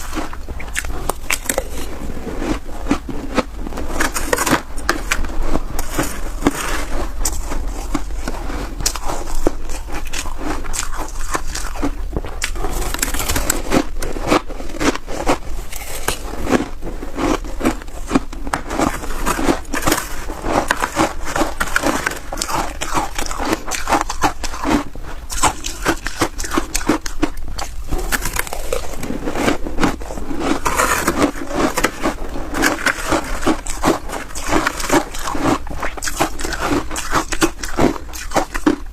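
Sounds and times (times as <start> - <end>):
chewing ice crunches: 0.0 - 38.9.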